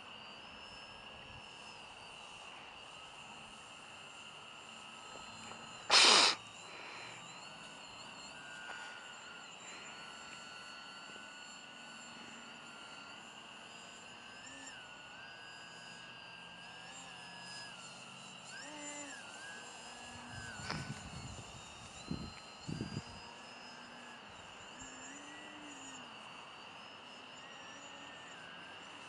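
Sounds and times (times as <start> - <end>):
distant electric motor whine: 0.0 - 29.0
night insects chorus: 0.0 - 29.0.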